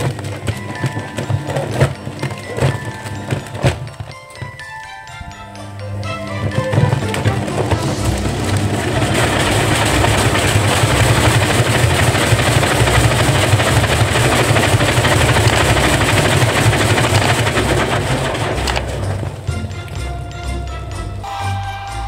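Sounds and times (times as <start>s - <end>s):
laundry churning: 0.0s - 20.3s
washing machine spinning: 0.0s - 21.2s.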